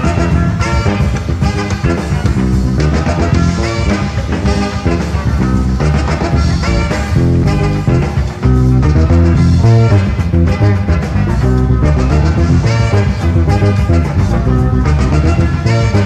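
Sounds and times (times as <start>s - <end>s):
electric bass: 0.0s - 16.0s
jazz fusion band playing: 0.0s - 16.0s.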